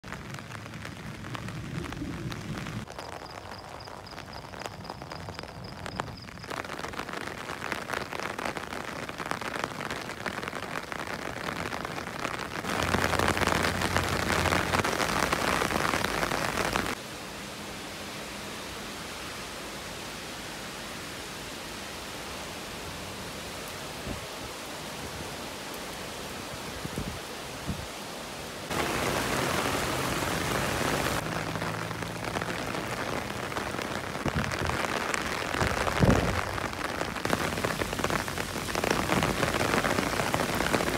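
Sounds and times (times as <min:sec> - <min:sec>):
steady rain on wet roads: 0:00.0 - 0:40.9.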